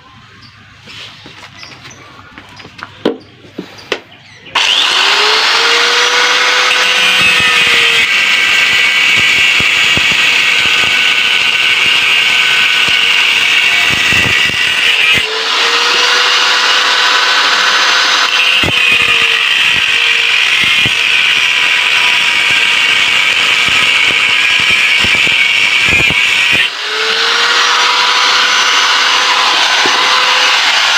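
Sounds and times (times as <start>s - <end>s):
angle grinder cutting steel: 4.5s - 30.9s.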